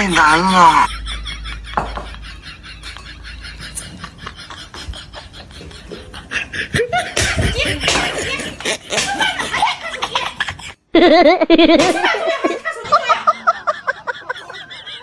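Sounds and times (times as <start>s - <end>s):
laughter: 0.6s - 15.0s.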